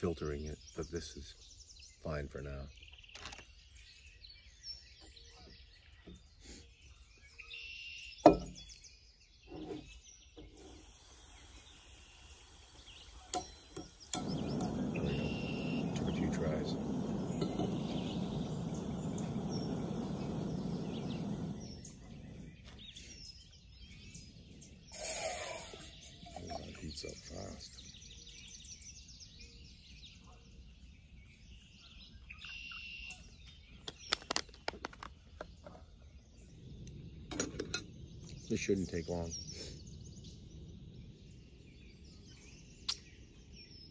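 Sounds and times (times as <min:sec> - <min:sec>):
birds chirping faintly: 0:00.0 - 0:43.9.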